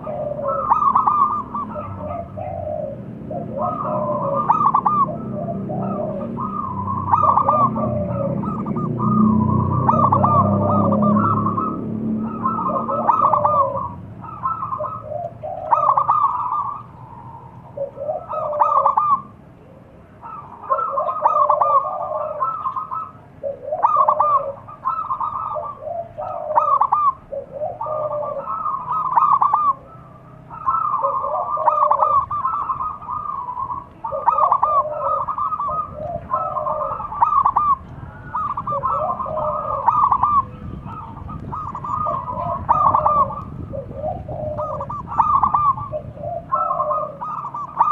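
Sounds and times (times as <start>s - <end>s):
doves cooing: 0.0s - 47.9s.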